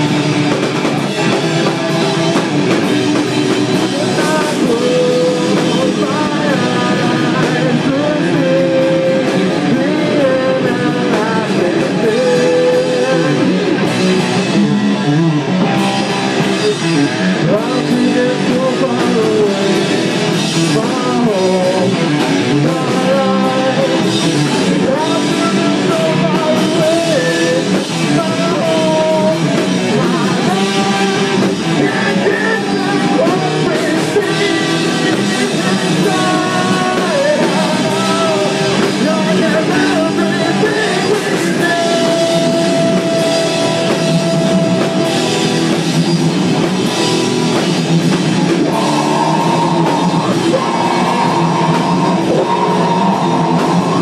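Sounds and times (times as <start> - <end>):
live rock band playing: 0.0 - 54.0
person singing into microphone: 1.2 - 14.7, 16.4 - 45.8, 48.5 - 54.0.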